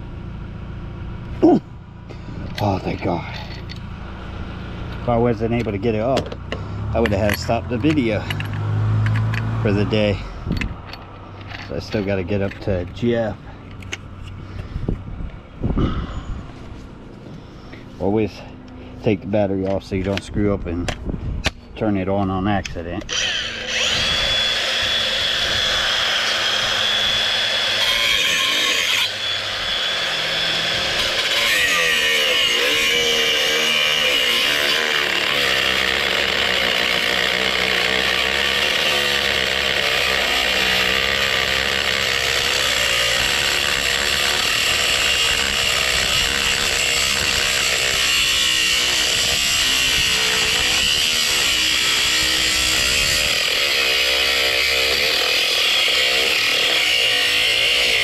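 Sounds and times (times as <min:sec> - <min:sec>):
angle grinder cutting metal: 0:02.1 - 0:14.7, 0:22.6 - 0:58.0.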